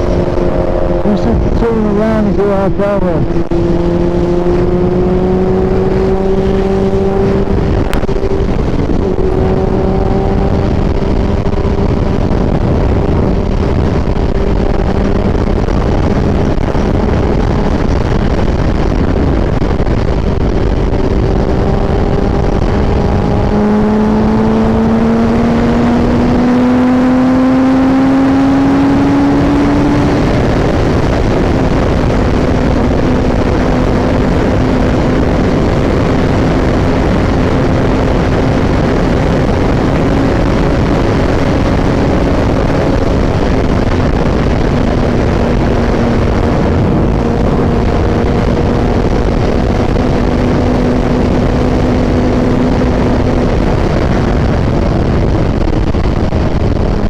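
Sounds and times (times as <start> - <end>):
vehicle engine running: 0.0 - 57.0
wind noise: 0.0 - 57.0.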